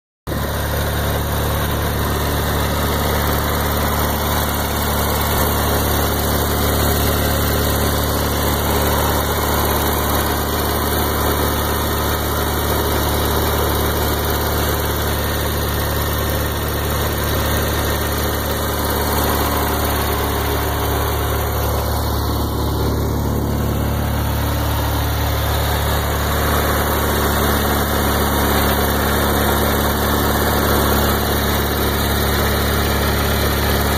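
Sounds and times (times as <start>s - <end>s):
lawn tractor engine idling: 0.3s - 33.9s.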